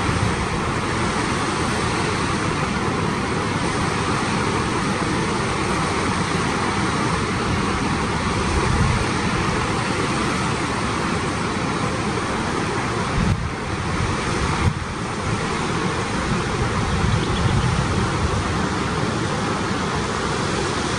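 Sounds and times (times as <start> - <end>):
creek water rushing over rocks: 0.0 - 20.9.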